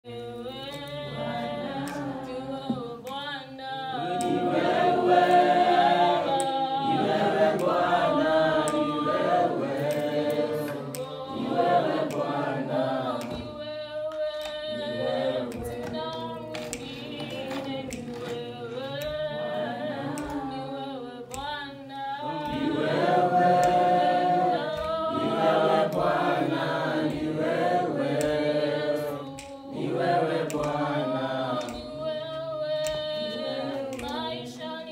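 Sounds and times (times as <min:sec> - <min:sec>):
choir singing unaccompanied: 0:00.1 - 0:34.9.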